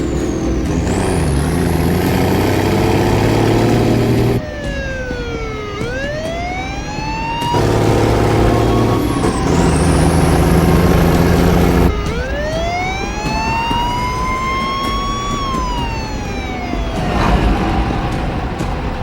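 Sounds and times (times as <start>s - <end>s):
heavy truck engines: 0.0s - 19.0s
high rising squeal: 0.0s - 19.0s
siren-like wail: 0.0s - 19.0s.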